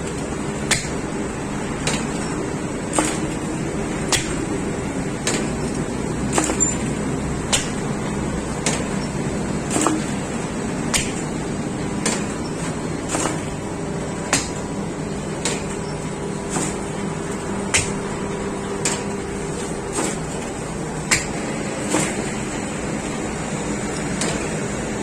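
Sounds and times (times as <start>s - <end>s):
machinery humming: 0.0s - 25.0s
machine clicking: 0.1s - 23.2s, 23.9s - 24.8s.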